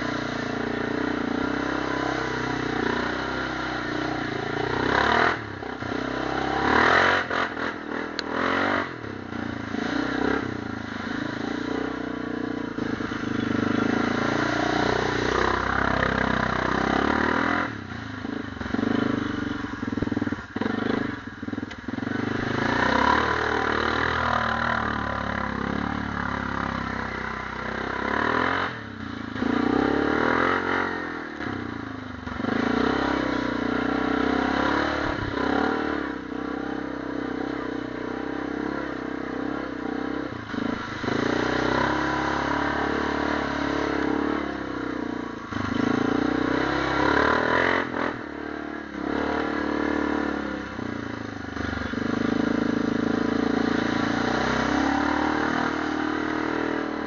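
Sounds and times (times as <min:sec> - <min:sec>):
splashing through mud puddle: 0:00.0 - 0:36.6, 0:37.8 - 0:57.0
atv engine revving: 0:00.0 - 0:57.0.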